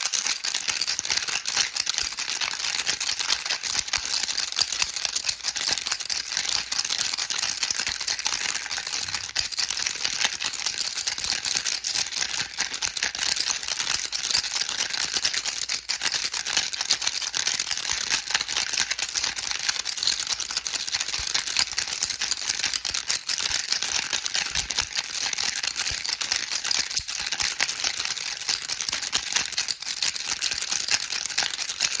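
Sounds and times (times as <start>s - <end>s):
baby rattle shaking: 0.0s - 32.0s.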